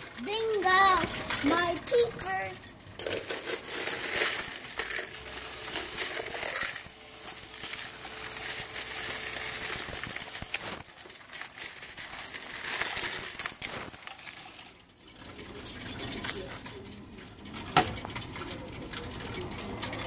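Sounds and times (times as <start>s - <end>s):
coins clinking and sliding: 0.0s - 20.0s.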